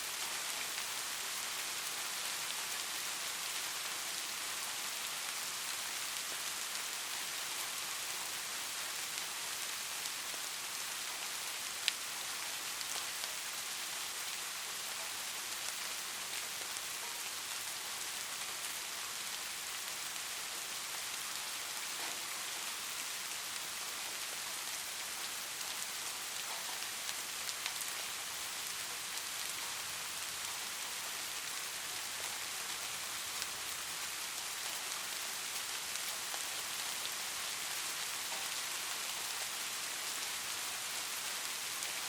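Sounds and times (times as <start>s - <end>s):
light rain falling: 0.0s - 42.0s.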